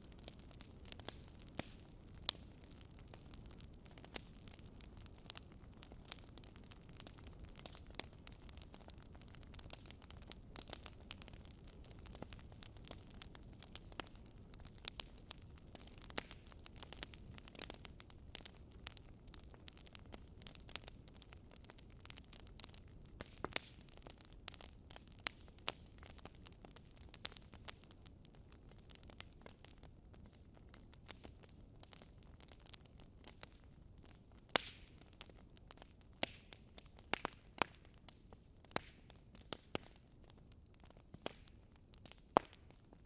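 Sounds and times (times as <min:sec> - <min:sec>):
low steady fire rumble: 0:00.0 - 0:43.0
wood fire crackling: 0:00.0 - 0:43.0.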